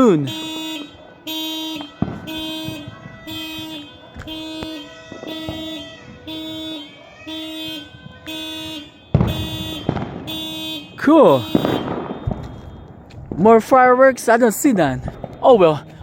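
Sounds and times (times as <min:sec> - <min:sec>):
car alarm horn honking: 0:00.0 - 0:13.2, 0:15.0 - 0:16.0
firework bangs: 0:00.0 - 0:16.0.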